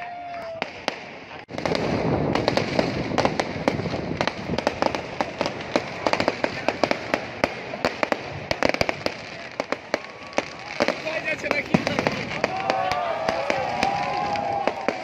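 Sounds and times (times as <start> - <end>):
fireworks crackling: 0.2 - 15.0.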